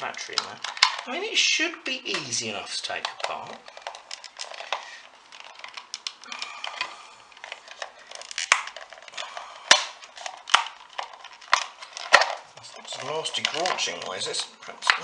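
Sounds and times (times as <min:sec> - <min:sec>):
plastic case cracking apart: 0:00.0 - 0:01.3, 0:02.0 - 0:15.0.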